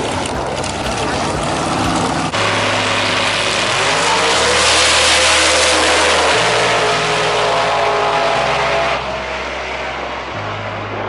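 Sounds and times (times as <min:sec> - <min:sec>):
racing car engine at full throttle: 0:00.0 - 0:11.0.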